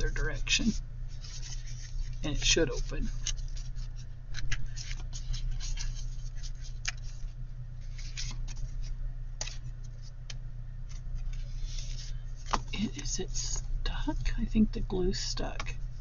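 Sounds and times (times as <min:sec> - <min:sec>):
paper rustling and scraping: 0:00.0 - 0:10.2, 0:10.9 - 0:13.6
steady low hum: 0:00.0 - 0:16.0.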